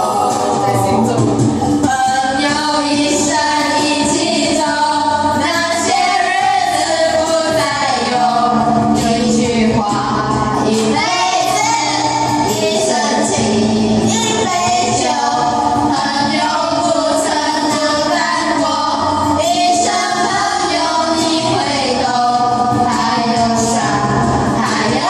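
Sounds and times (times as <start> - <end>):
backing music: 0.0 - 25.0
women singing together: 0.0 - 25.0.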